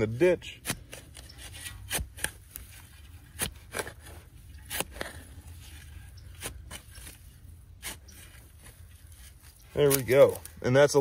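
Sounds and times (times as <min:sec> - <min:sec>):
spade scraping into soil: 0:00.0 - 0:10.4.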